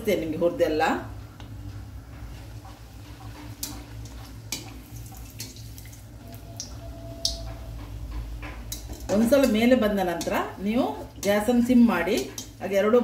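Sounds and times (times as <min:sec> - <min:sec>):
oil bubbling and sizzling: 0:01.1 - 0:13.0.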